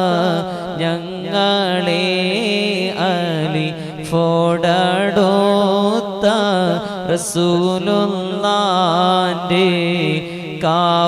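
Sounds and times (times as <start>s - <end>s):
man singing melismatic lines: 0.0s - 11.0s.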